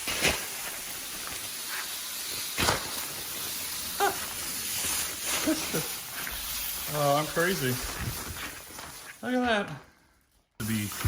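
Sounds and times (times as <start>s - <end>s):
rice pouring on hard floor: 0.0s - 9.5s, 10.6s - 11.0s.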